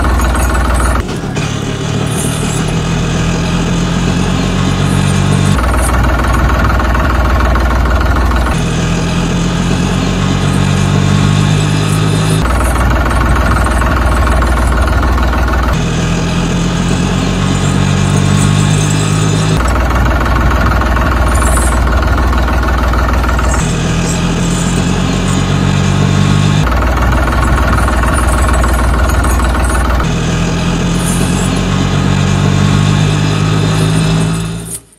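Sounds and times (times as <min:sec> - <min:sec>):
engine sound effect: 0:00.0 - 0:34.9.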